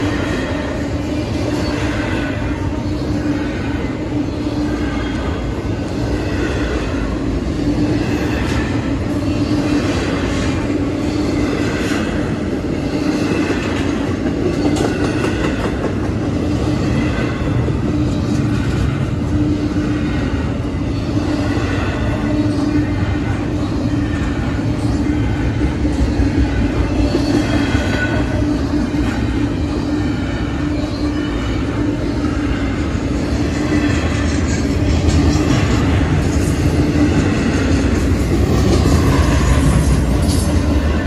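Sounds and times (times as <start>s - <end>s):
freight train rumbling past: 0.0s - 41.0s.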